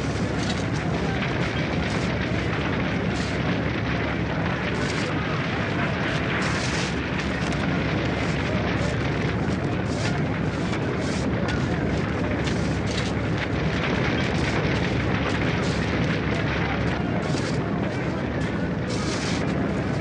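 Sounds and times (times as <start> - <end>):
fire crackling: 0.0 - 20.0
roar of burning oil fire: 0.0 - 20.0.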